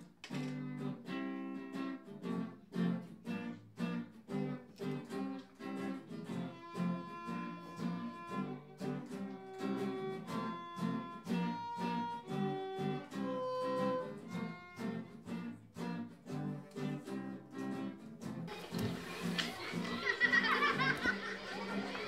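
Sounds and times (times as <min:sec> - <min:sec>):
plucked string notes: 0:00.0 - 0:22.0.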